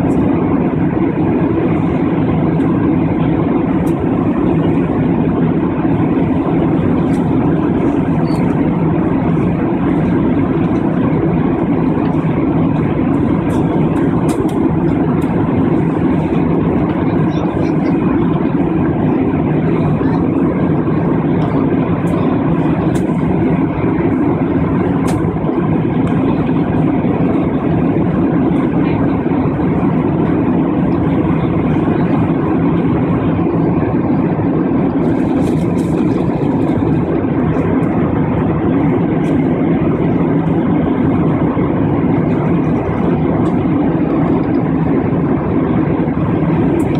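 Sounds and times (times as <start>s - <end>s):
jet engine drone in cabin: 0.0s - 46.9s.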